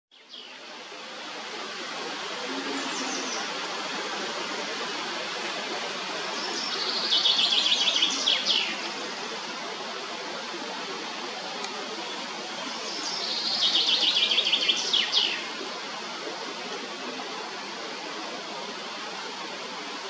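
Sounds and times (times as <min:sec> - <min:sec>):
steady outdoor hiss: 0:00.1 - 0:20.0.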